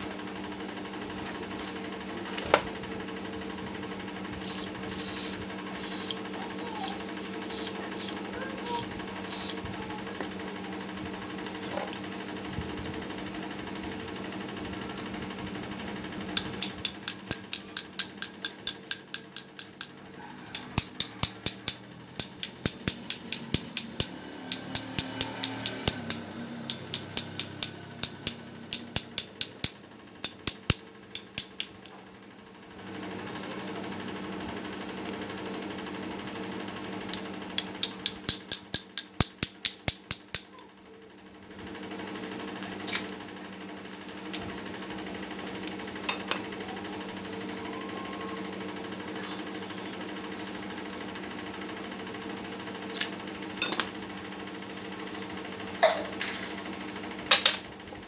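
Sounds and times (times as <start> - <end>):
steady motor hum: 0.0 - 58.0.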